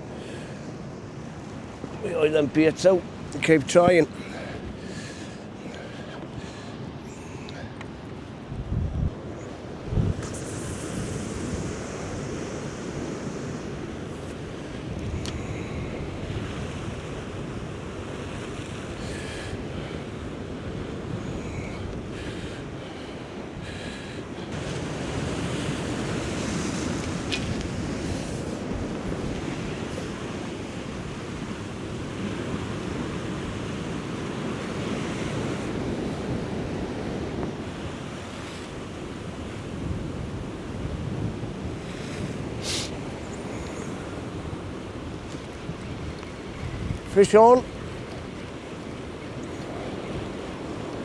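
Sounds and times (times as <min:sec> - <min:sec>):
waves washing on rocky shore: 0:00.0 - 0:51.0
wind buffeting microphone: 0:00.0 - 0:51.0.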